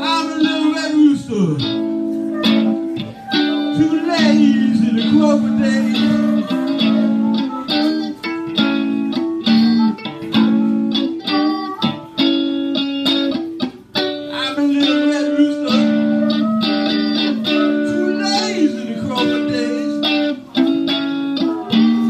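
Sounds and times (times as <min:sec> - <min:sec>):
electric guitar playing blues: 0:00.0 - 0:22.0
harmonica held notes: 0:01.0 - 0:14.4, 0:15.0 - 0:22.0.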